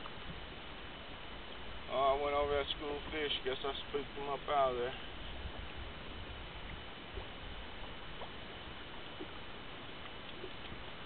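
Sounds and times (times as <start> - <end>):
low rush of background noise: 0.0 - 11.0.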